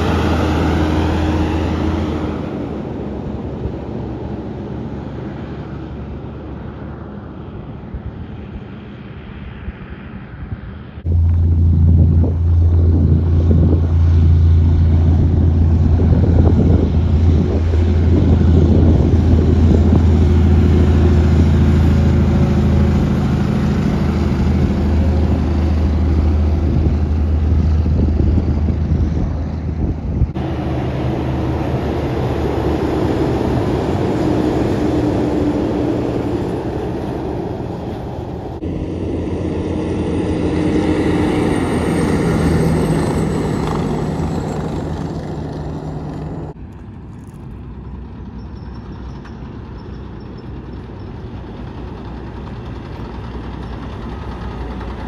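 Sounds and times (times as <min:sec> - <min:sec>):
diesel truck engine drone: 0:00.0 - 0:55.0
tyre and road noise: 0:00.0 - 0:55.0.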